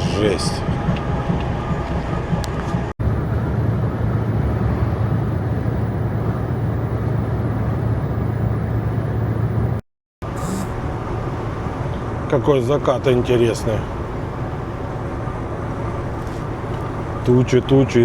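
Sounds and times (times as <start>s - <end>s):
road and wind rush: 0.0s - 18.0s
truck engine drone: 0.0s - 18.0s.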